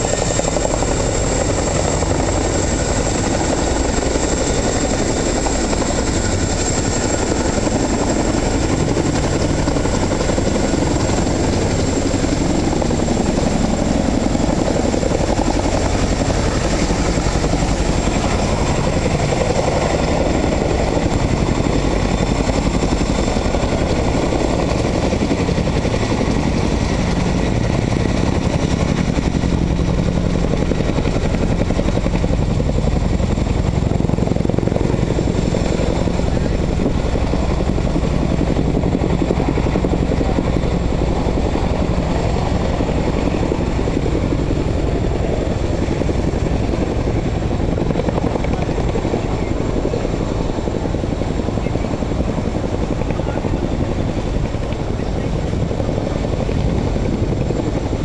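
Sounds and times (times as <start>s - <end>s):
helicopter rotor beat: 0.0s - 58.0s.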